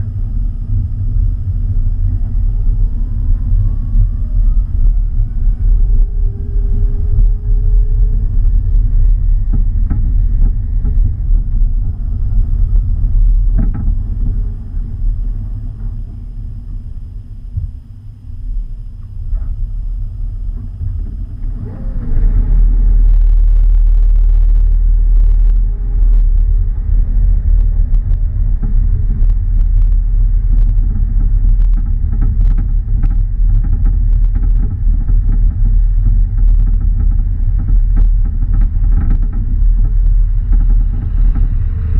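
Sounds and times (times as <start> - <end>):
car driving rumble: 0.0 - 41.9.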